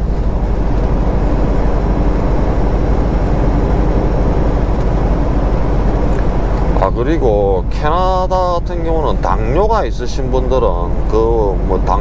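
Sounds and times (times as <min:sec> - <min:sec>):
diesel engine drone: 0:00.0 - 0:12.0
tyre and road noise: 0:00.0 - 0:12.0.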